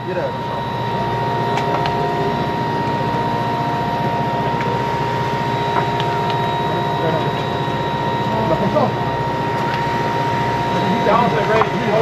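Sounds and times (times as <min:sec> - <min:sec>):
boat engines droning: 0:00.0 - 0:12.0
constant whine: 0:00.0 - 0:12.0.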